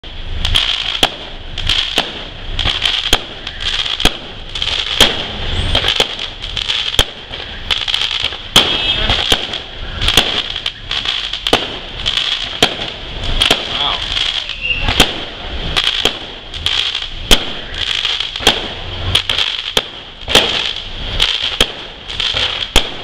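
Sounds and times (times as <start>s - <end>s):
fireworks shells bursting: 0.0s - 23.0s
steady high-pitched hiss: 0.0s - 23.0s.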